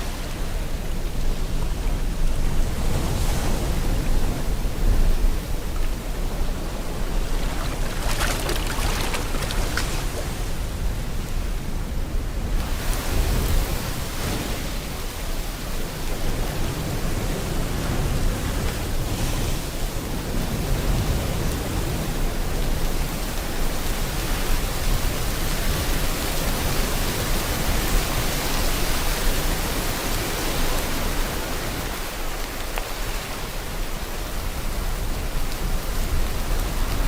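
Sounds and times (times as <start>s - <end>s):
ocean surf: 0.0s - 37.0s
steady rain: 0.0s - 37.0s.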